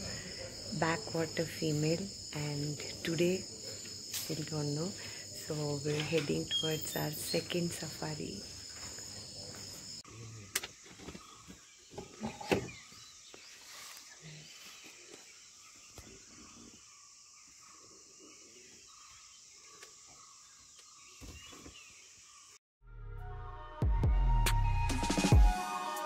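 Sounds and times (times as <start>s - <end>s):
high insect hum: 0.0s - 22.6s.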